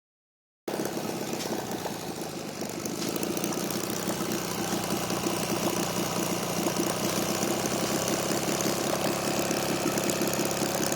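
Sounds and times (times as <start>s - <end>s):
small gasoline engine running: 0.7s - 10.9s.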